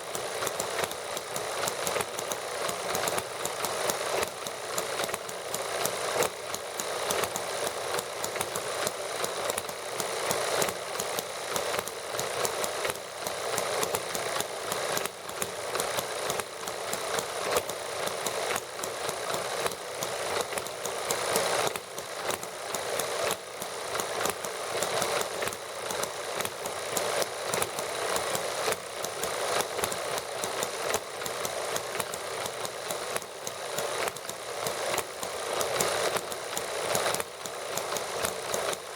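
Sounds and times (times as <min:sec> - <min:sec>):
model engines running: 0:00.0 - 0:38.9.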